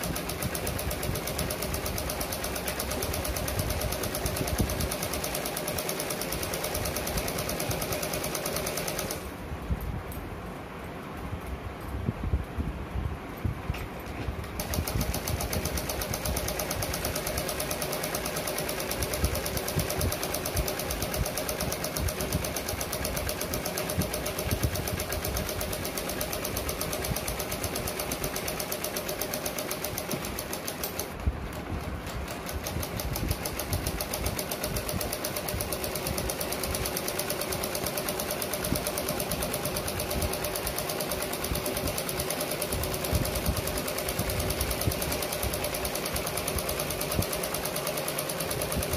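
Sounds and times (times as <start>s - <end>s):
sewing machine clattering: 0.0s - 9.3s, 14.4s - 48.9s.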